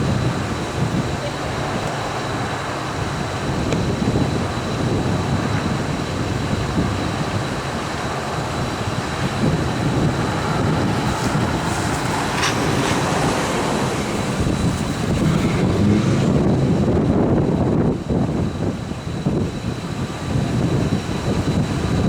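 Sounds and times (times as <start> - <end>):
road noise: 0.0 - 22.0
rushing wind: 0.0 - 22.0
wind buffeting microphone: 0.0 - 22.0.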